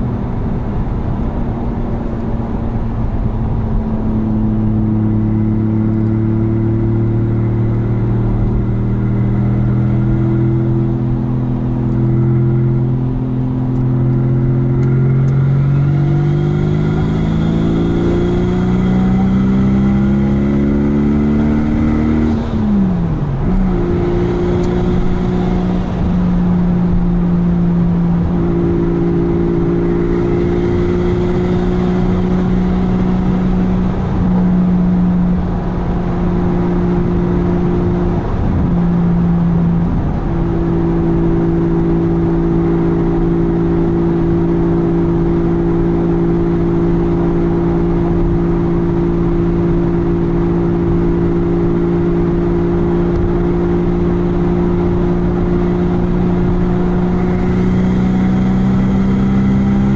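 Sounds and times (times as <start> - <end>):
car engine accelerating: 0.0 - 59.9
road and tyre noise: 0.0 - 59.9.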